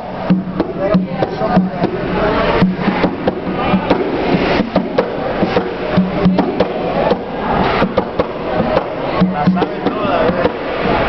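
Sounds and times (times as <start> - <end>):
hand drum slaps and tones: 0.0 - 11.0.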